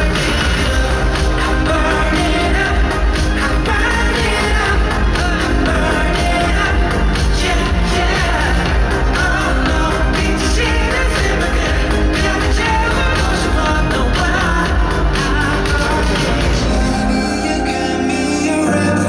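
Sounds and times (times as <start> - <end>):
heavy bass beat: 0.0 - 17.6
amplified pop music with singing: 0.0 - 19.0.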